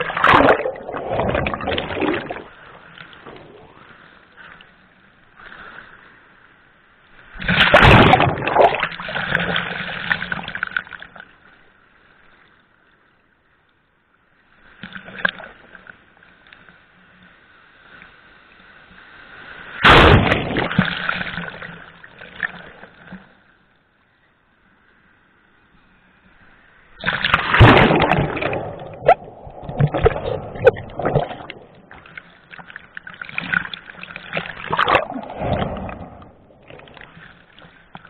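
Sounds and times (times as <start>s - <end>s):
water splashing and sloshing: 0.0s - 11.8s, 14.6s - 23.6s, 26.4s - 38.0s.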